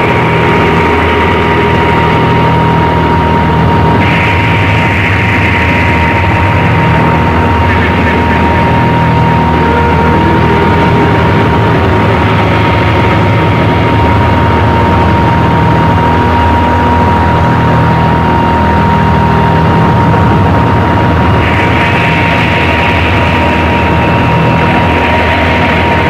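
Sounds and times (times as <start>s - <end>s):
droning low hum and hiss: 0.0s - 26.0s
steady high tone: 0.0s - 26.0s.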